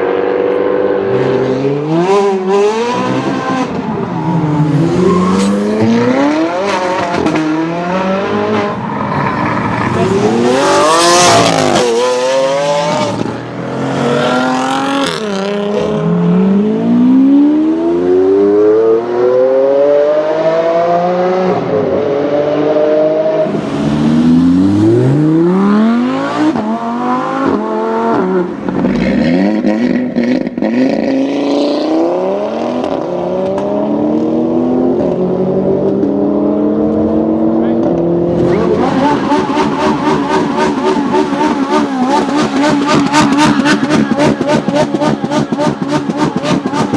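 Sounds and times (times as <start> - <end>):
supercar engines revving: 0.0 - 46.9.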